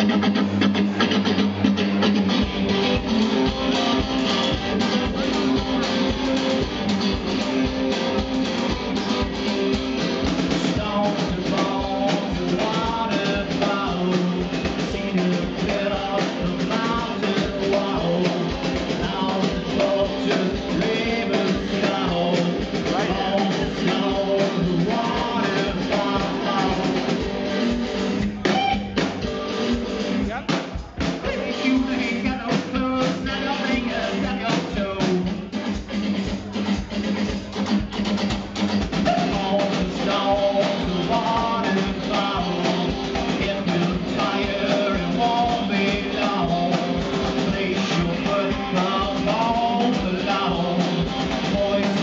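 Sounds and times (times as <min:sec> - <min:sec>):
drum kit: 0:00.0 - 0:52.0
electric guitar: 0:00.0 - 0:52.0.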